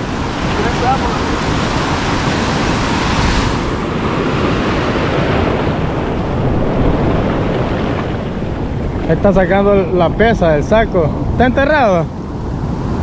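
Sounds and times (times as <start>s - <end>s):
ocean surf washing over beach: 0.0s - 13.0s
wind rumbling on microphone: 0.0s - 13.0s.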